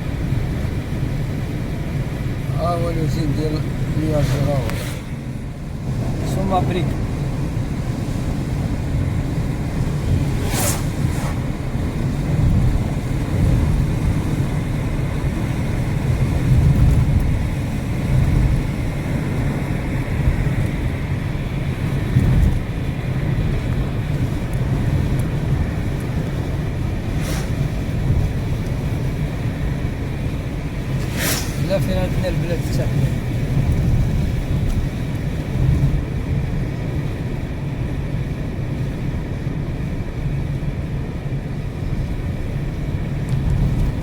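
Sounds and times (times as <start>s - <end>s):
wind buffeting microphone: 0.0s - 38.0s
car engine and tyre rumble: 0.0s - 44.0s.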